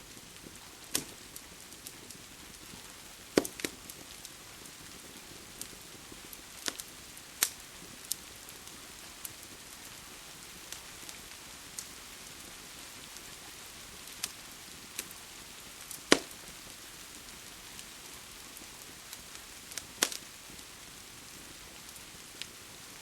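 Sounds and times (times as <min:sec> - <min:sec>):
rain hiss: 0:00.0 - 0:23.0
wood fire crackling: 0:00.0 - 0:23.0.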